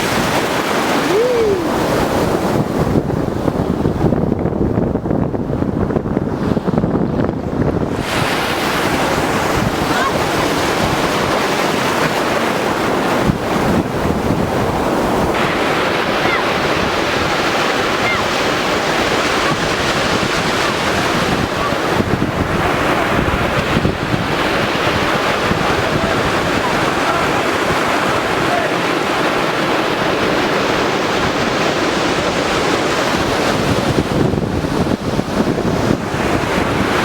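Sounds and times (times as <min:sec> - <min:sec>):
sea waves breaking on shore: 0:00.0 - 0:04.2, 0:06.1 - 0:37.0
wind buffeting microphone: 0:00.0 - 0:37.0.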